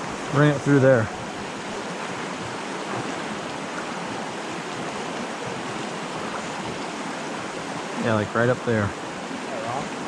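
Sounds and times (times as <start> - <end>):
stream water rushing: 0.0 - 10.0.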